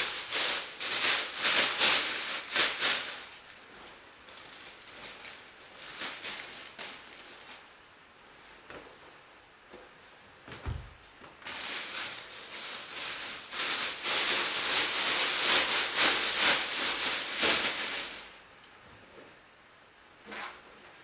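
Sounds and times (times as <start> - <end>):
rustling and crinkling: 0.0 - 7.7, 8.3 - 19.4.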